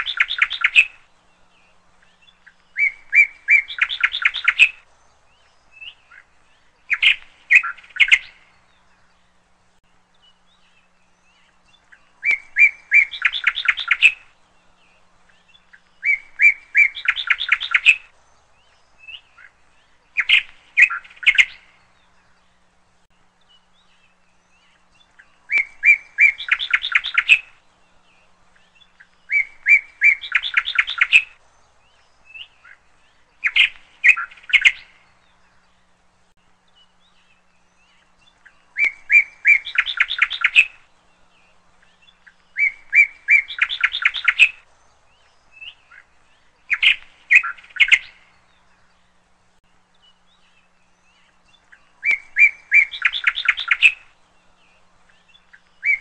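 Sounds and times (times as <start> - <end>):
bird chirping and trilling: 0.0 - 9.4, 10.0 - 49.2, 49.8 - 56.0.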